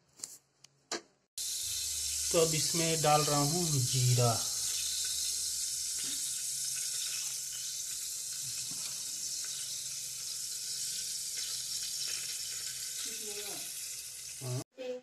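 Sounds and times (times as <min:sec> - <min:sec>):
seeds sizzling in hot oil: 0:01.4 - 0:14.6.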